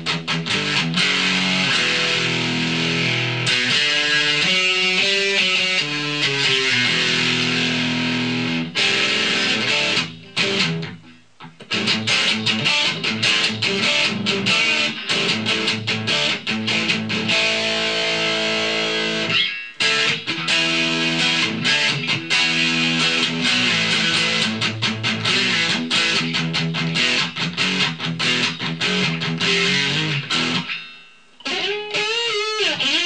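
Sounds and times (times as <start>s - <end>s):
distorted electric guitar riffing: 0.0s - 33.0s.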